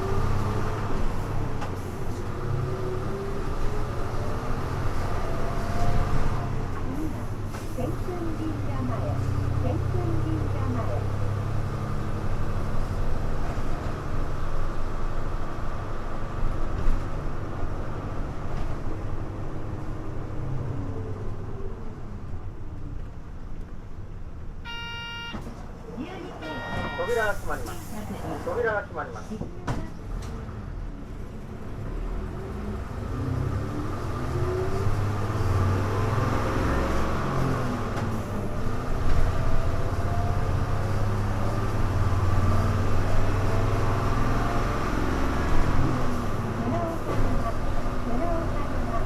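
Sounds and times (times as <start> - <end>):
bus diesel engine droning: 0.0 - 49.0
road noise: 0.0 - 49.0.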